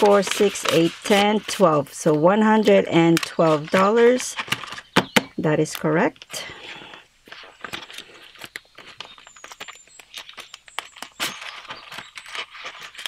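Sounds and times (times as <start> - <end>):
plastic envelope crinkling: 0.0 - 5.0, 7.2 - 13.0
banknotes rustling: 0.0 - 13.0.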